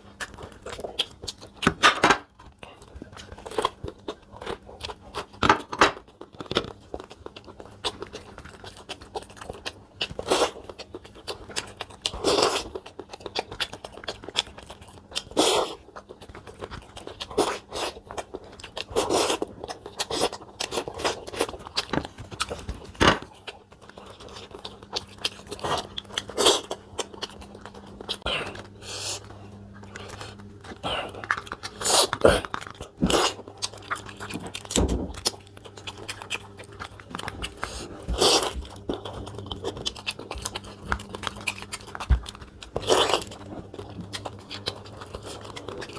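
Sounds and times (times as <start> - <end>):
chewing with lip smacks: 0.0 - 45.9.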